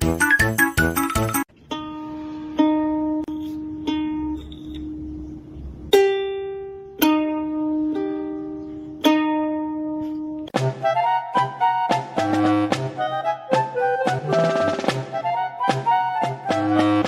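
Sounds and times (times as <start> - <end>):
plucked string melody: 0.0 - 17.0.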